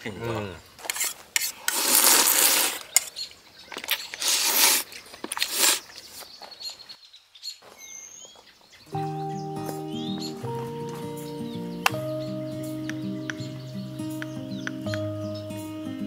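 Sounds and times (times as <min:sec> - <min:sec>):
faint birds chirping: 0:02.5 - 0:16.0.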